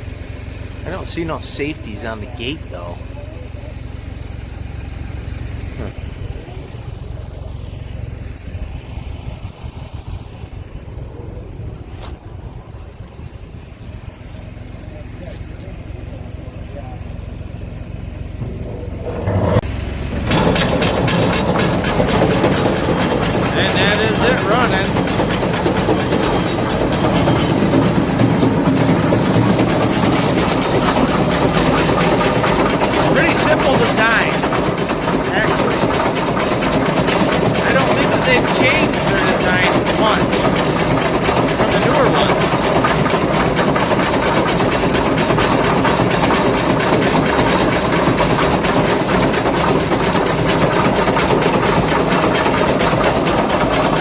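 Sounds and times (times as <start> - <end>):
fast mechanical clatter: 0.0 - 10.2, 18.2 - 54.0
engine idling: 0.0 - 54.0.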